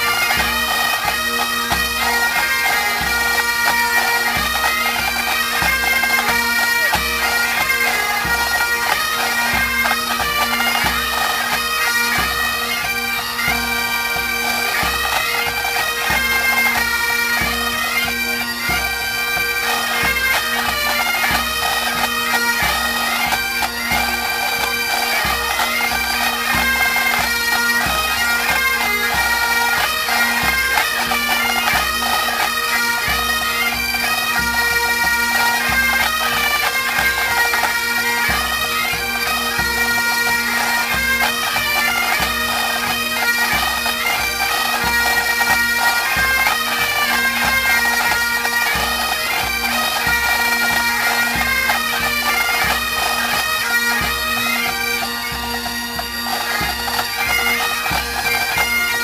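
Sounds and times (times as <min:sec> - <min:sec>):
bagpipes playing: 0:00.0 - 0:59.0.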